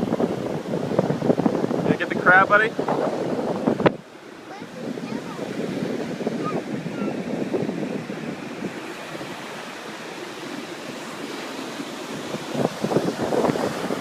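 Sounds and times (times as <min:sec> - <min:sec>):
ocean surf rushing: 0:00.0 - 0:14.0
wind buffeting microphone: 0:00.0 - 0:14.0.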